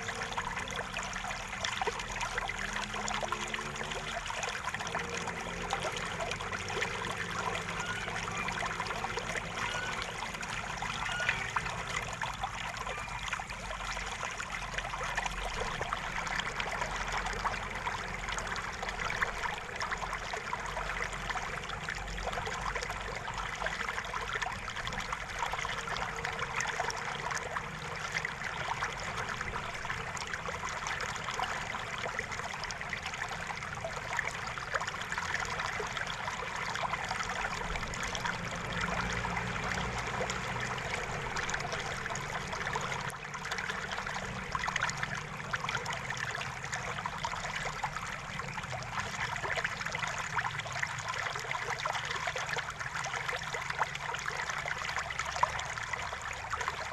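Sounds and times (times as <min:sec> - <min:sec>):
river water babbling over stones: 0:00.0 - 0:56.9.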